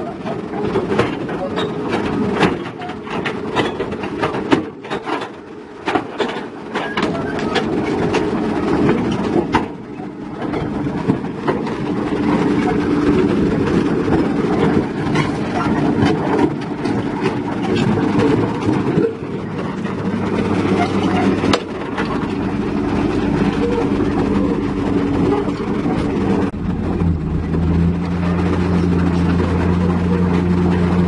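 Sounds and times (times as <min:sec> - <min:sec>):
heavy diesel machinery running: 0:00.0 - 0:31.0
metallic clanks and knocks: 0:00.2 - 0:31.0.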